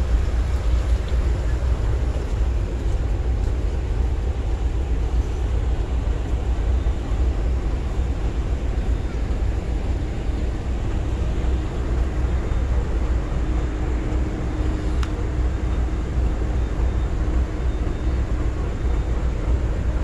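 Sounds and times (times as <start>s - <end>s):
faint steady hum: 0.0s - 20.0s
train rumbling past: 0.0s - 20.0s.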